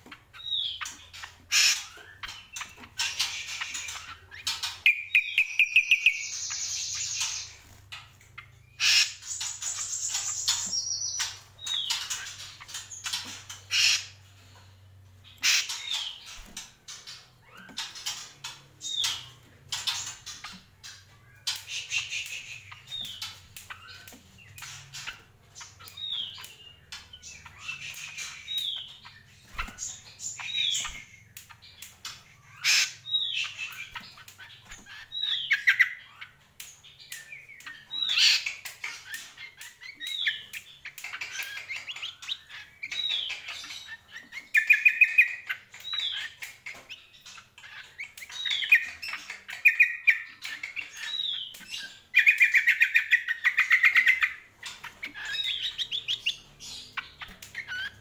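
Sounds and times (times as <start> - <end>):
bird singing trills and whistles: 0.1 - 7.8, 8.4 - 14.3, 15.2 - 58.0.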